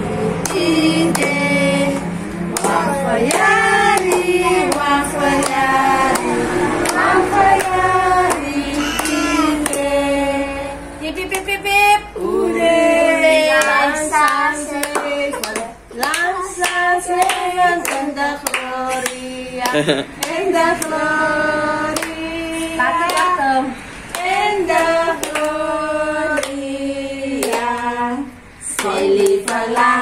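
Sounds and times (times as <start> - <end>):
group singing birthday song: 0.0 - 30.0.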